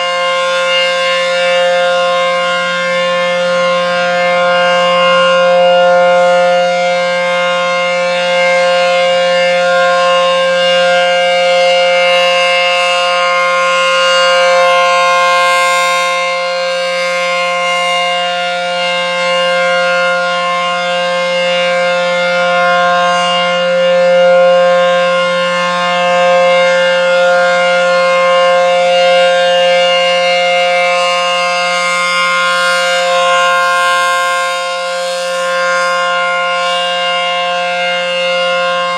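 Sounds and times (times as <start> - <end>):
warning siren steady chord: 0.0 - 38.9.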